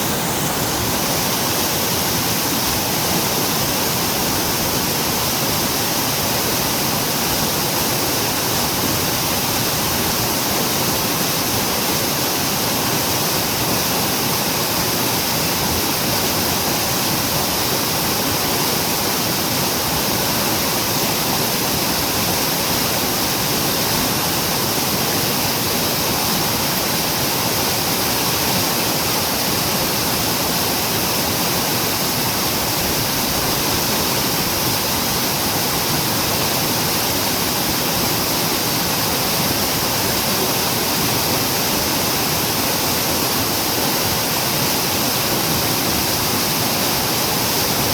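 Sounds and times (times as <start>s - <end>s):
stream rushing over rocks: 0.0s - 47.9s.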